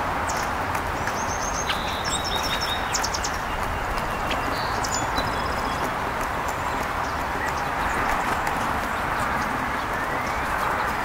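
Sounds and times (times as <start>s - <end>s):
birds pecking seed on wood: 0.0s - 11.0s
steady rushing background noise: 0.0s - 11.0s
small birds chirping: 0.2s - 11.0s.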